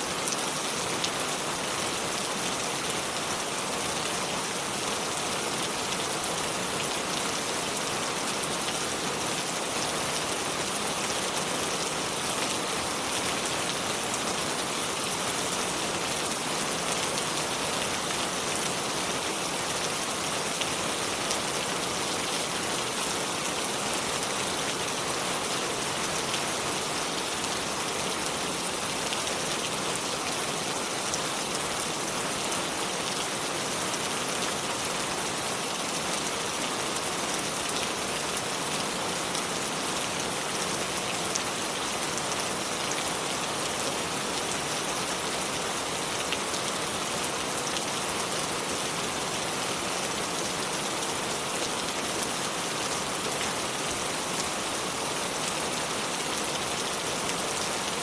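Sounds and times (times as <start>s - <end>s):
river water flowing over stones: 0.0s - 58.0s.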